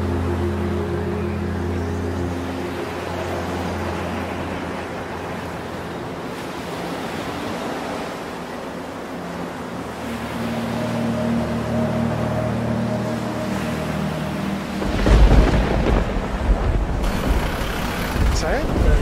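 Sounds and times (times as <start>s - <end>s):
rush of sea water: 0.0s - 19.0s
wind: 0.0s - 19.0s
waves and spray breaking: 2.2s - 19.0s.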